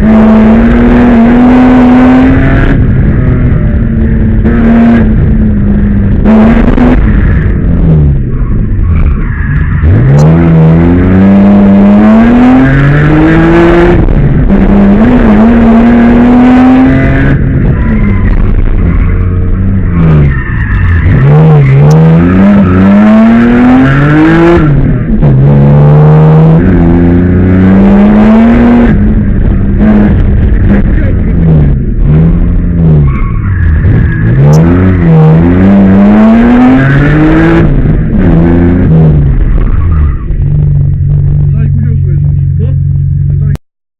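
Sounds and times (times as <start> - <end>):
car engine revving hard: 0.0 - 43.6
tyres skidding: 0.0 - 43.6.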